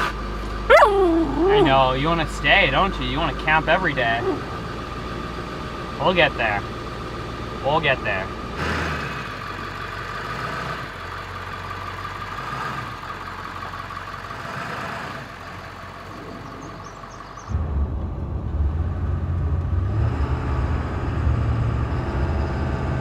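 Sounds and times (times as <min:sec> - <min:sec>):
diesel truck engine running: 0:00.0 - 0:23.0
engine and road drone in cab: 0:00.0 - 0:23.0.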